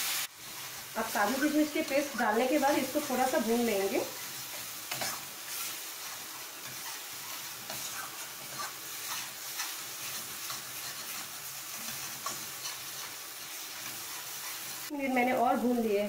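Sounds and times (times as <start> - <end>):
paste sizzling in a frying pan: 0.0 - 16.0
wooden spatula scraping a pan: 0.4 - 14.9.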